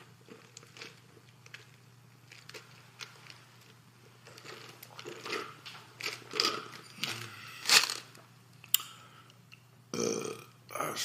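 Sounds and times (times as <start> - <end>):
mouth chewing and crunching food: 0.0 - 9.6.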